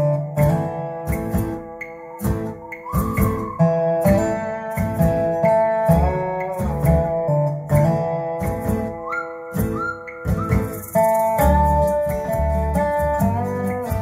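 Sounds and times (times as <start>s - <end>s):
guitar-led instrumental music: 0.0s - 14.0s.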